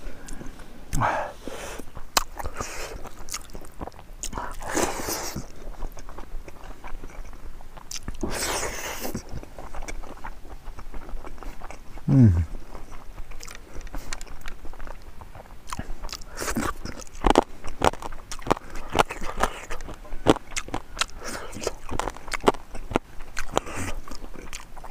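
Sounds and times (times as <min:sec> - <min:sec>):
person chewing food: 0:00.0 - 0:24.9.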